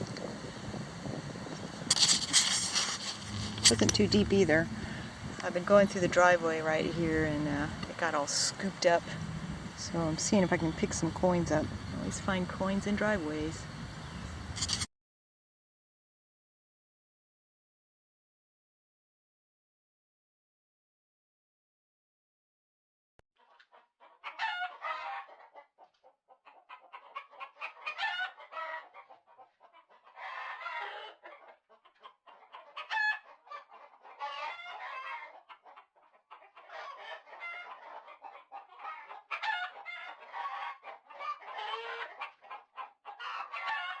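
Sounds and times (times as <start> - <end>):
chickens clucking and squawking: 0.0 - 14.9, 23.5 - 44.0.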